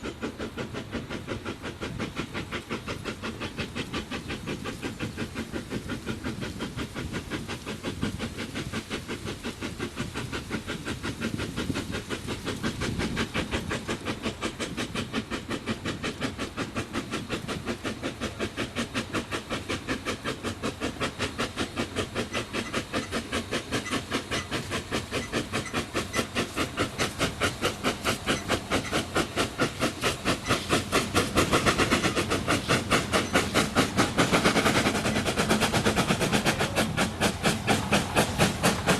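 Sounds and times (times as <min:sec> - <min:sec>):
steady steam hiss: 0:00.0 - 0:38.9
steam locomotive exhaust chuffing: 0:00.0 - 0:38.9.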